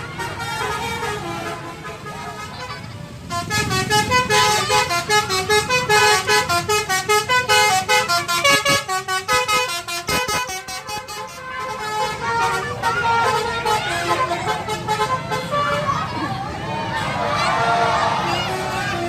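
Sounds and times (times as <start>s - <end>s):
bus horn playing melody: 0.0s - 16.0s.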